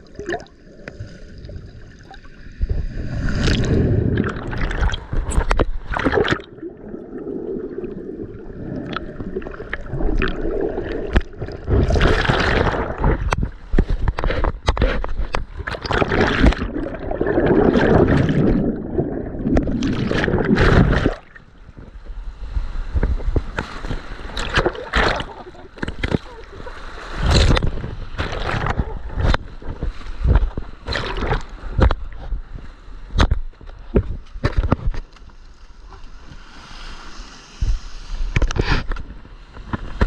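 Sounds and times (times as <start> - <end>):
sea water sloshing and gurgling: 0.0 - 40.0.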